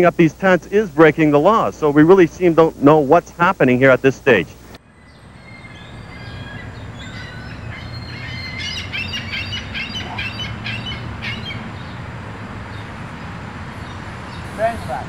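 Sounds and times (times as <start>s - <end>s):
bird chirping: 0.0s - 12.1s.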